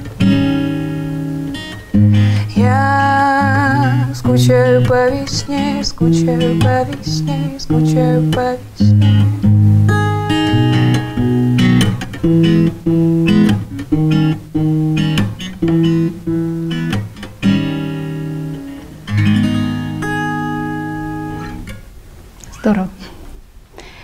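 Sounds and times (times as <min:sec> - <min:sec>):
fingerpicked acoustic guitar: 0:00.0 - 0:22.7.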